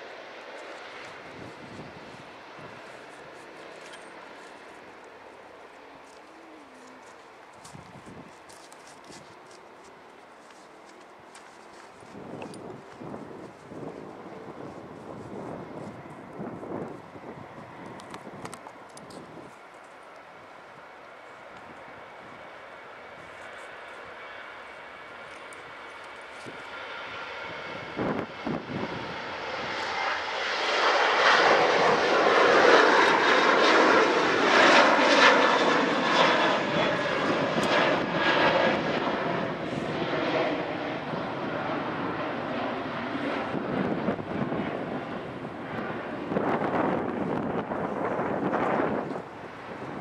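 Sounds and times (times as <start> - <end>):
jet engine roar with whine: 0.0 - 50.0.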